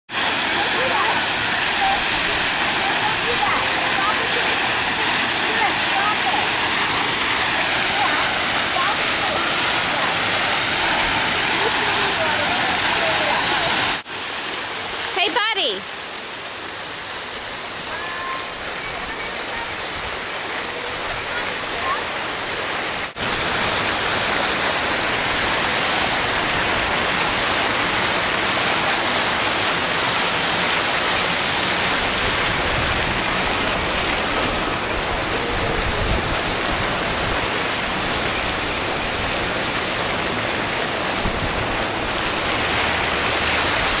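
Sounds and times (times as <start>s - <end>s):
water jets splashing on ground: 0.1s - 44.0s.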